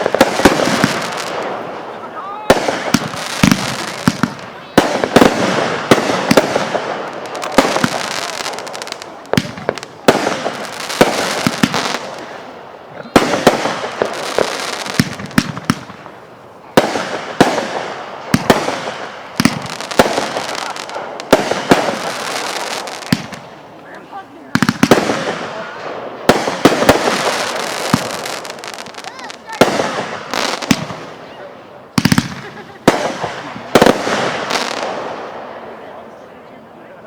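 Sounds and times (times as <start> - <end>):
fireworks bangs: 0.0 - 36.4
fireworks crackling: 0.0 - 36.4.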